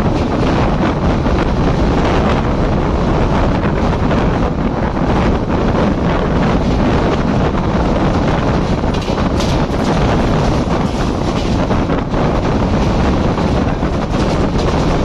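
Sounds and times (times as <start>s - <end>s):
train rumbling at high speed: 0.0s - 15.0s
wind buffeting the microphone: 0.0s - 15.0s.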